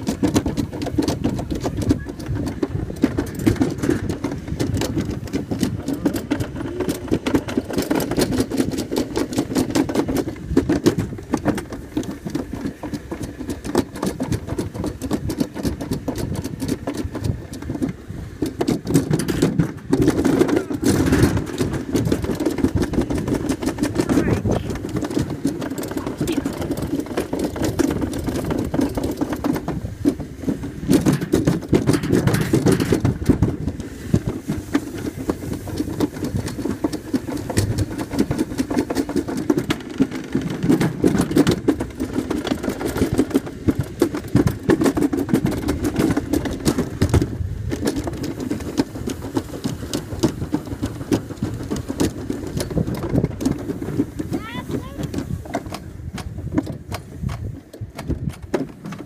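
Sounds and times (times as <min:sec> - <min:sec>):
sled rumbling down metal trough: 0:00.0 - 0:59.0.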